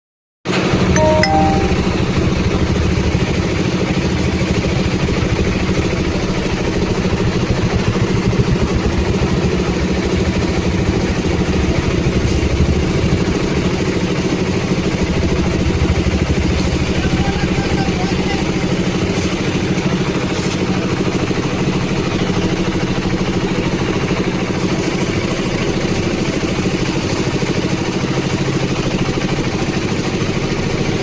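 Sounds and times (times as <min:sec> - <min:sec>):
concrete mixer engine running: 0:02.7 - 0:31.0.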